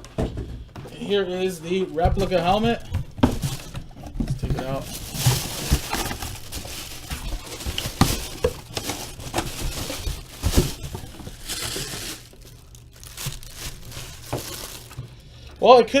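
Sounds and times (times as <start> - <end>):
plastic wrapping crinkling: 1.8 - 16.0.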